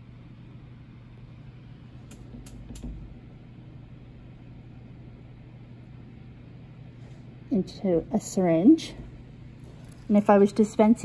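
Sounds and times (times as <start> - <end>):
blower fan hum: 0.0 - 11.0.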